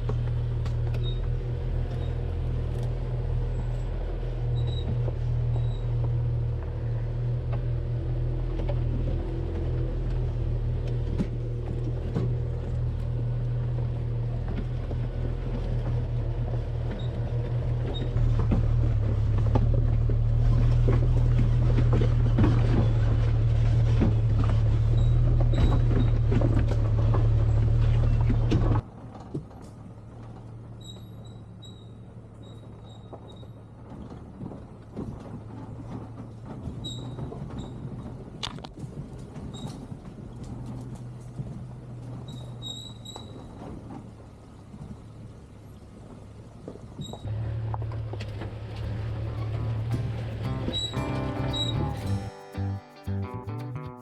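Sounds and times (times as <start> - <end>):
engine and road drone: 0.0 - 54.0.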